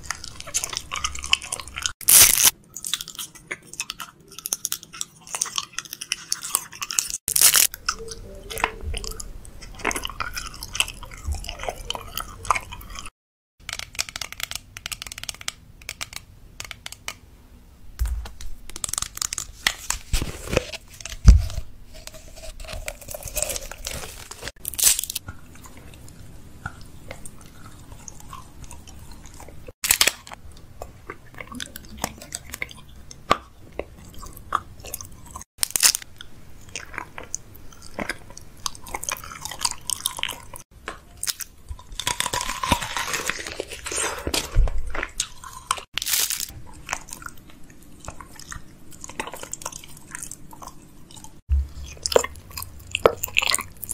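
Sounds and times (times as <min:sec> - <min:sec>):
crunching and chewing sweets: 0:00.0 - 0:17.2, 0:18.6 - 0:53.9.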